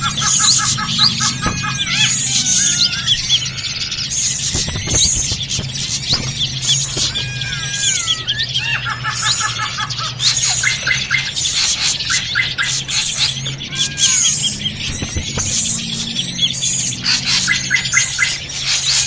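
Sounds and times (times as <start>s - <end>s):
birds calling noisily: 0.0s - 19.0s.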